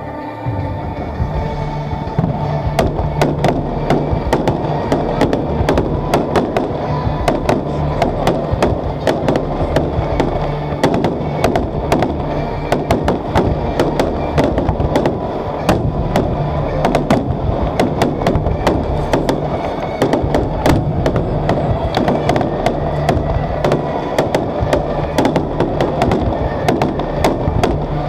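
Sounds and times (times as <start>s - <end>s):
music playing: 0.0s - 28.0s
fireworks bangs: 0.9s - 28.0s.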